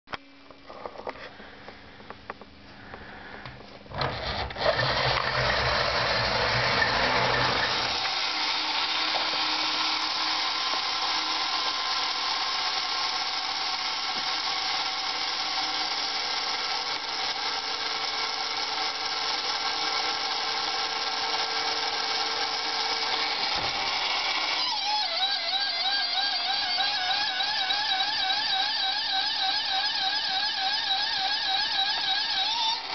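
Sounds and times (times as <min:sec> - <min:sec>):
toy motor whirring: 0:03.9 - 0:32.9.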